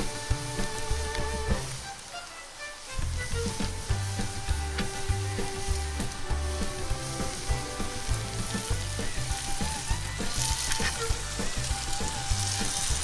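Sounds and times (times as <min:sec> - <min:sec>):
potato and bacon sizzling in butter: 0:00.0 - 0:13.0.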